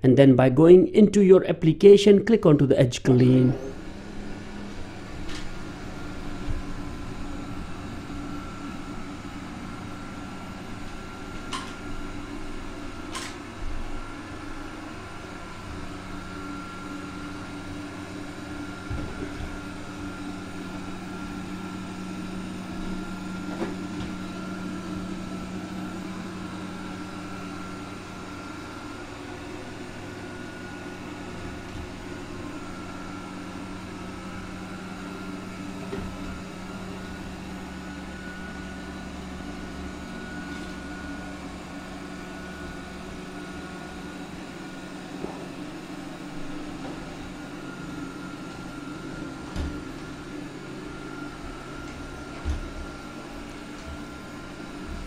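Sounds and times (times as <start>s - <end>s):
robot vacuum humming: 3.4s - 55.0s.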